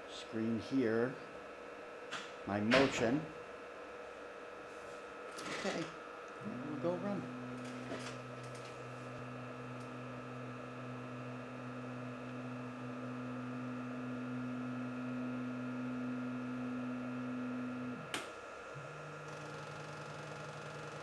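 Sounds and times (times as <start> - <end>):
laser welding machine humming: 1.5 - 21.0.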